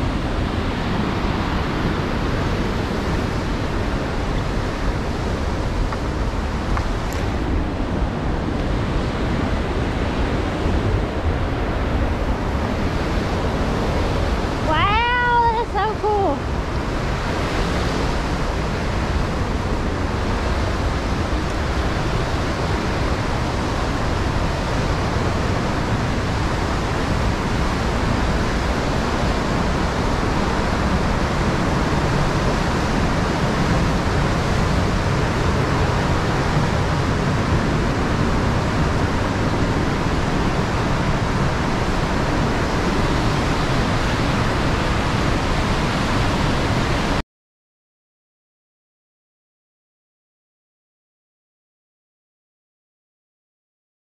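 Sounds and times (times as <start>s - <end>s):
river rapids rushing: 0.0s - 47.2s.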